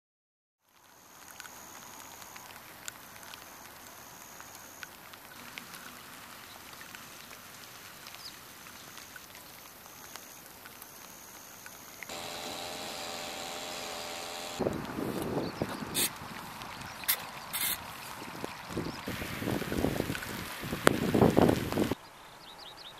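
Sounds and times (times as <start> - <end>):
light rain on standing water: 0.6 - 22.1.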